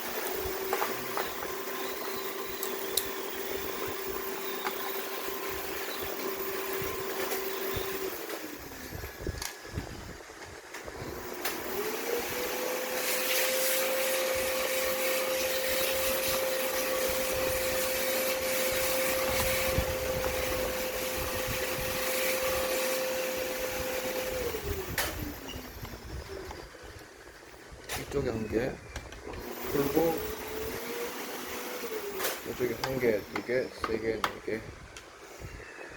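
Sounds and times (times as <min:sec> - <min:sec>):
high-speed electric motor: 0:00.0 - 0:34.3.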